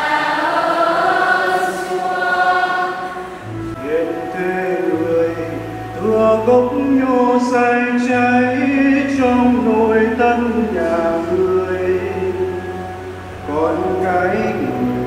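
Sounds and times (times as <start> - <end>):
sustained low accompaniment: 0.0 - 15.0.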